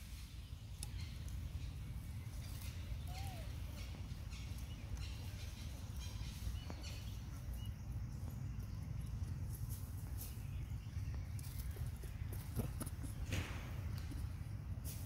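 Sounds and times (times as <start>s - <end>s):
faint bird chirps: 0.1s - 13.2s.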